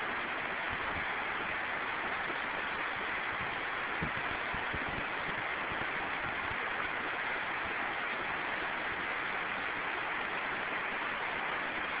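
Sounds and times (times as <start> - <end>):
floodwater rushing across street: 0.0 - 12.0.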